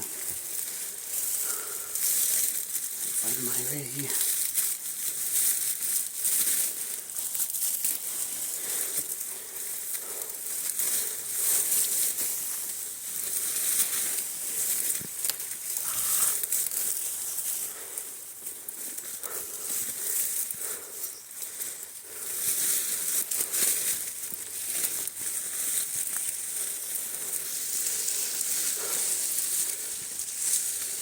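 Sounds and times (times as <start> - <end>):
leaves and branches rustling: 0.0 - 31.0.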